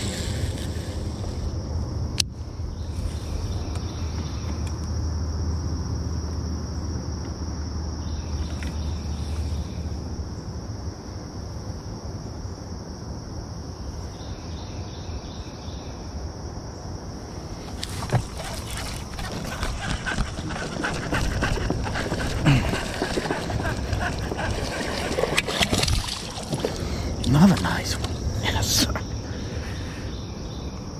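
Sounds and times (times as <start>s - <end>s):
crickets droning: 0.0s - 30.9s.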